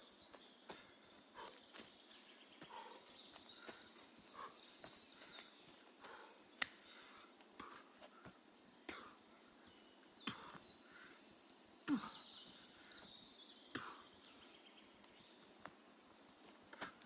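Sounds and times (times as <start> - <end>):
faint high bird calls: 0.0 - 15.5.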